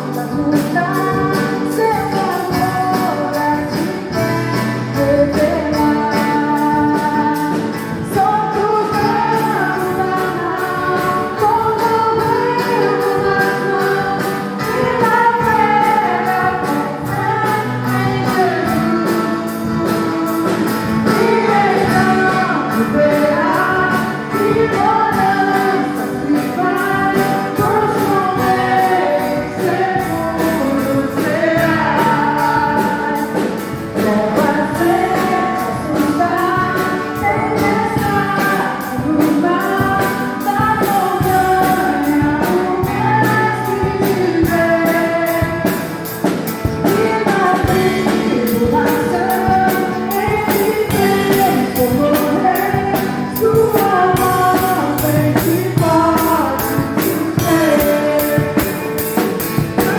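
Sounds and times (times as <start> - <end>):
group singing a hymn: 0.0 - 59.9
quick percussion beat: 0.0 - 59.9.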